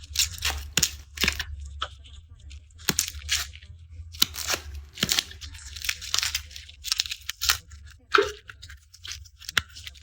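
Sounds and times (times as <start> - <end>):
garlic skins tearing and crackling: 0.0 - 2.0, 2.8 - 10.0.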